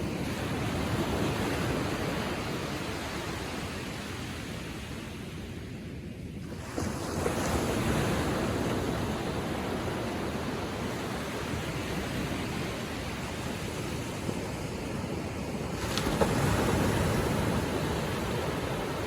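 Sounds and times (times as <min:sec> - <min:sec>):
waves lapping on sandy shore: 0:00.0 - 0:19.0.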